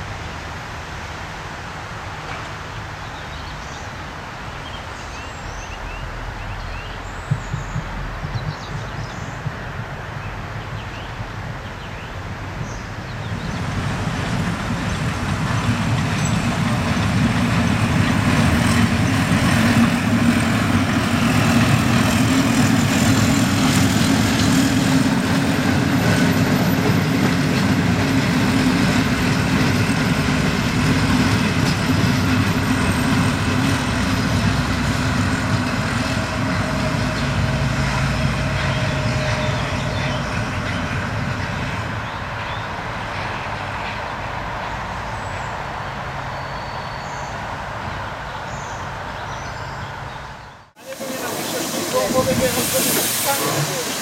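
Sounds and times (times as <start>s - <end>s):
steam train passing: 3.9s - 54.0s.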